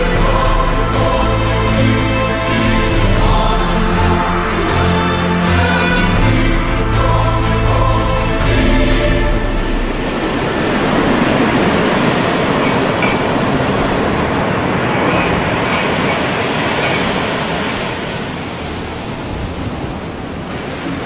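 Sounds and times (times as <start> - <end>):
heavy breaking seas: 0.0 - 21.0
storm wind: 0.0 - 21.0.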